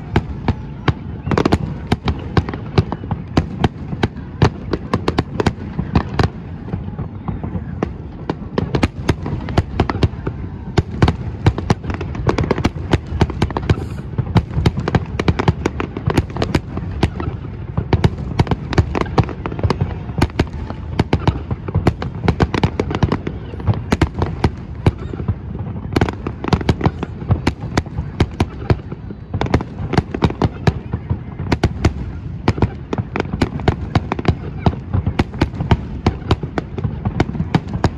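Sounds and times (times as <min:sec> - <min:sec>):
fireworks bursting and crackling: 0:00.0 - 0:37.9.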